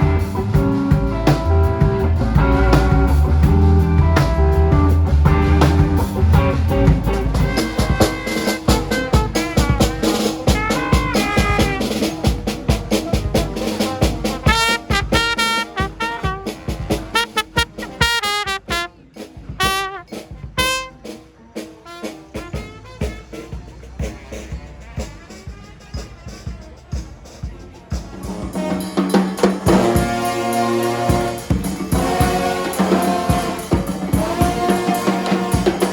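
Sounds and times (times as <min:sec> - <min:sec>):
jazz horn melody: 0:00.0 - 0:12.5, 0:13.2 - 0:23.8, 0:25.0 - 0:26.7, 0:28.5 - 0:35.9
drums: 0:00.0 - 0:35.9.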